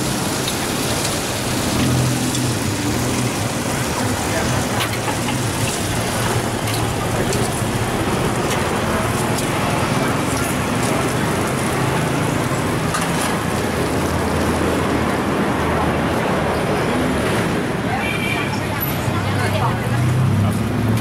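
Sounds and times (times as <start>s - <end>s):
traffic noise: 0.0s - 21.0s.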